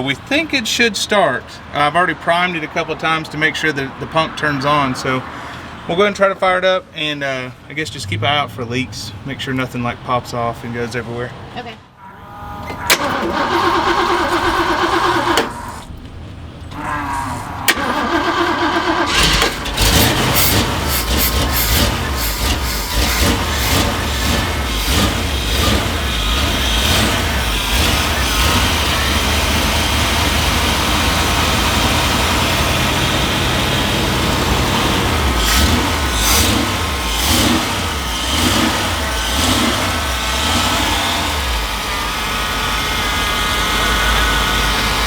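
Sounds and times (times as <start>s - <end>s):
truck engine revving: 7.0s - 45.0s.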